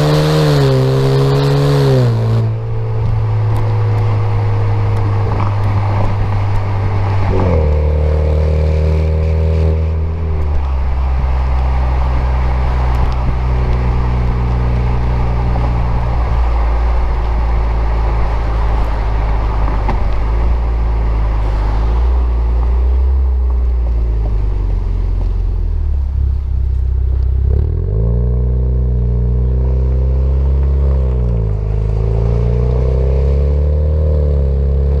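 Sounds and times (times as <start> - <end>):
car exhaust while driving: 0.0 - 35.0.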